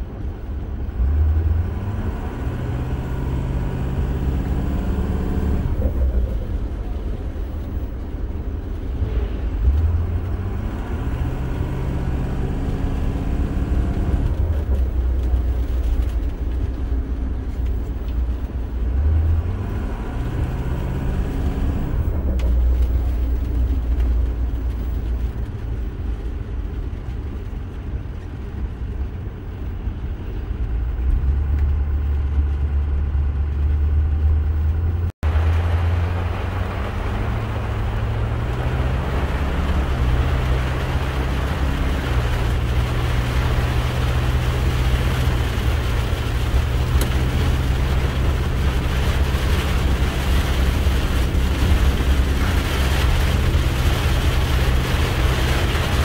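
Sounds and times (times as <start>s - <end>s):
diesel engine revving: 0.8s - 8.0s, 8.6s - 26.2s, 29.6s - 56.0s.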